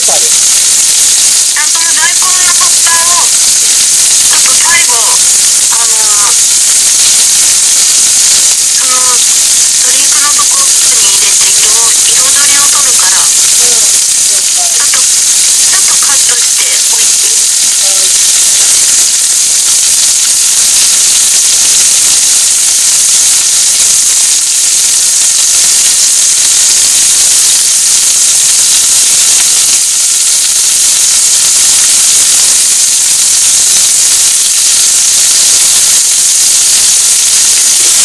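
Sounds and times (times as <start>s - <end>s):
chicken sizzling in a frying pan: 0.0s - 38.0s.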